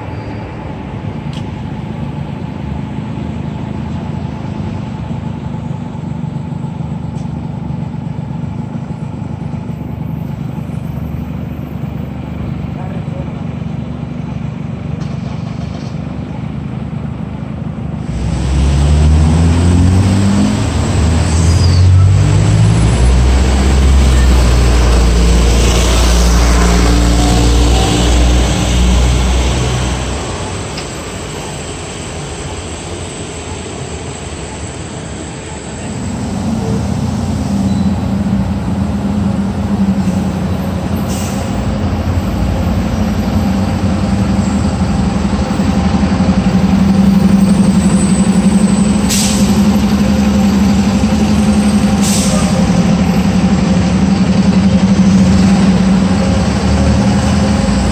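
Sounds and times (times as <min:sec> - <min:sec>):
large vehicle engine accelerating: 0:00.0 - 0:57.9
steady engine hum: 0:00.0 - 0:57.9.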